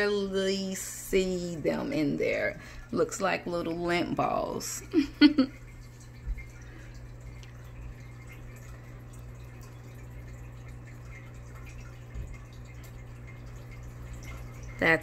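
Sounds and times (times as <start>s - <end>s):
aquarium bubbles popping: 0.0s - 15.0s
steady low hum: 0.0s - 15.0s.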